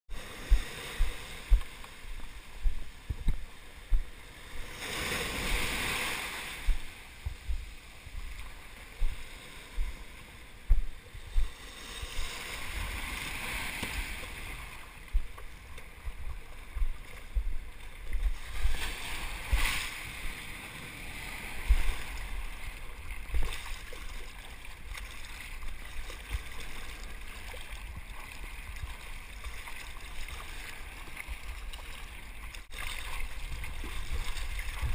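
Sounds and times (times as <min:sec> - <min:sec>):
water sloshing and splashing: 0:00.1 - 0:34.9.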